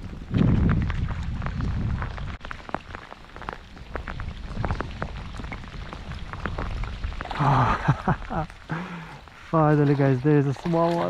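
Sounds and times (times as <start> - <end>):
rain falling on a lake: 0.0 - 11.0.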